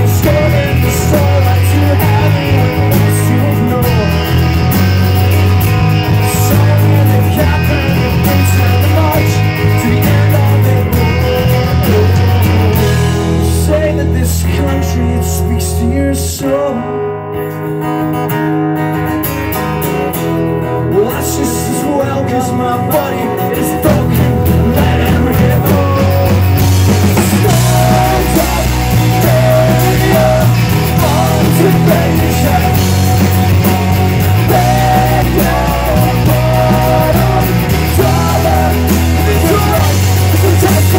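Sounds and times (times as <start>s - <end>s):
punk rock band playing live: 0.0s - 40.9s.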